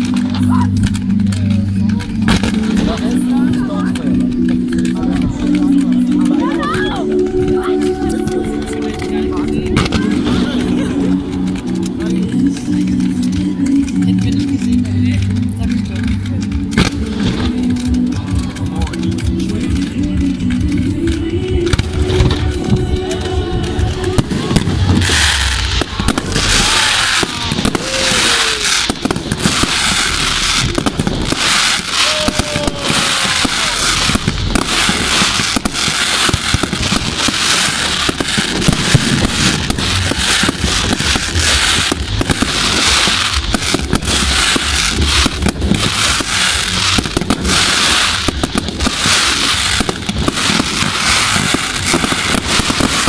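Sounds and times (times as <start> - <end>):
fireworks bursting and crackling: 0.0 - 53.0.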